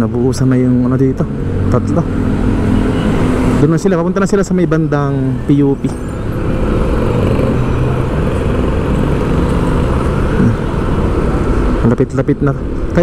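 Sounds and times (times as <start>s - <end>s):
engine hum: 0.0s - 13.0s
road traffic rumble: 0.0s - 13.0s.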